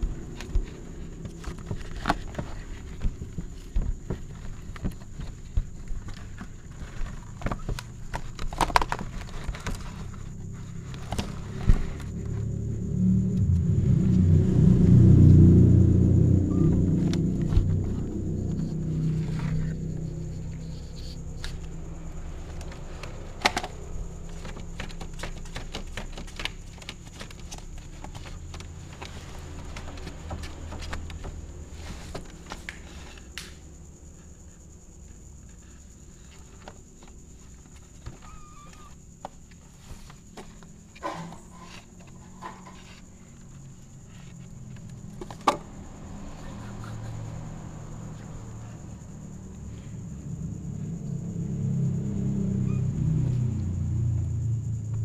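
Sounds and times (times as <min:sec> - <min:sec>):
steady low hum: 0:09.4 - 0:55.0.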